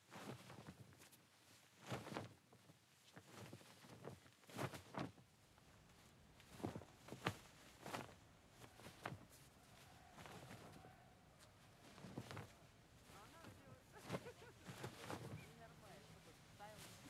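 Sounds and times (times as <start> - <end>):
faint slow footsteps: 1.7 - 17.0.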